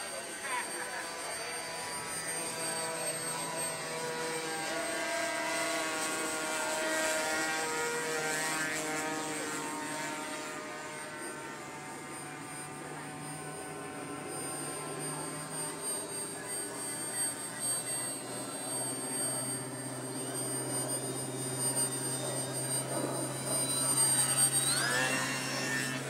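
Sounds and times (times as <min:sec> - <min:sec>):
model plane motor whine: 0:00.0 - 0:26.0.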